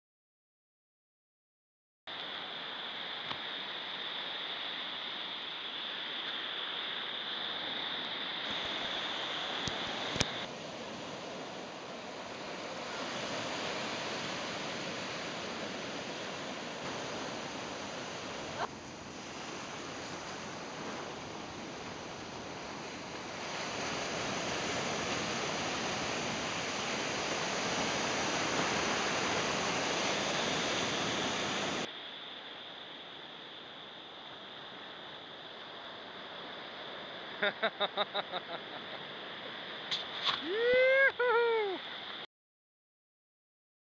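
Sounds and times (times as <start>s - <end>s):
ocean surf breaking: 2.4s - 32.2s, 33.6s - 42.2s.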